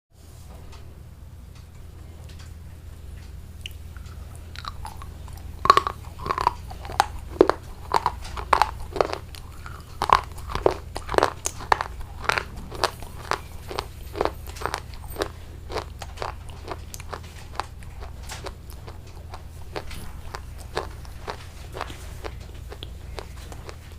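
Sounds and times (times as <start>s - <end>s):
steady low hum: 0.2s - 23.9s
person chewing crunchy food: 3.6s - 23.9s.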